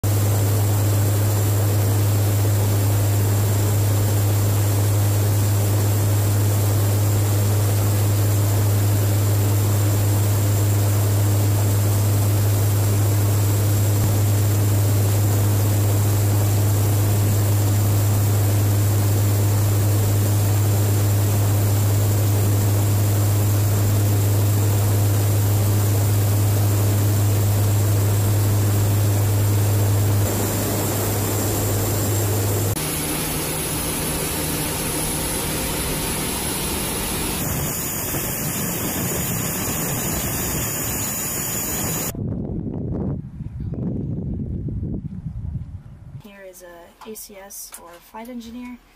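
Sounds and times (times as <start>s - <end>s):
turboprop engines droning: 0.0s - 46.2s.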